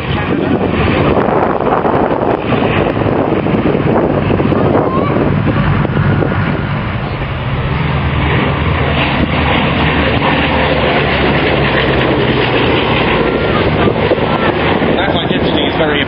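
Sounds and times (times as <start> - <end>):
aircraft engines droning: 0.0 - 16.0
wind noise on microphone: 0.0 - 16.0.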